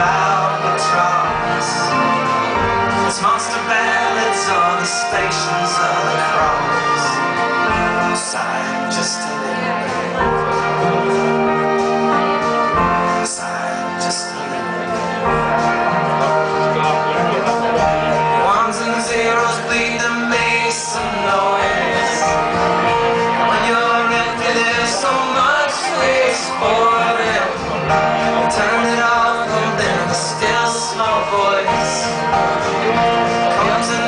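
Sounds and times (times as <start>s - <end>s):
acoustic guitar: 0.0s - 34.0s
man singing: 0.0s - 34.0s
orchestral backing: 0.0s - 34.0s.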